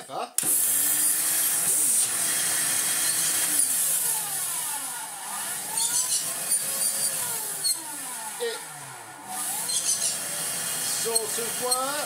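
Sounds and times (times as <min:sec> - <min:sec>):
vacuum cleaner motor whining: 0:00.4 - 0:12.0.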